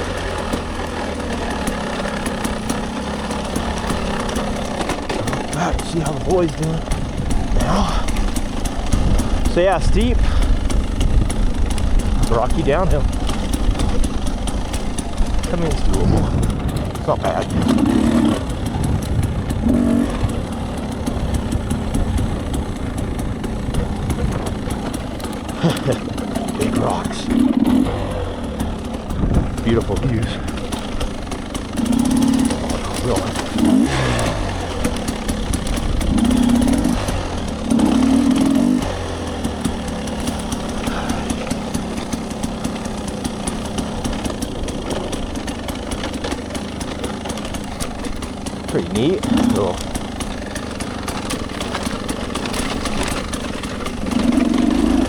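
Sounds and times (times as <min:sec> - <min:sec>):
dirt bike engine at low revs: 0:00.0 - 0:55.0.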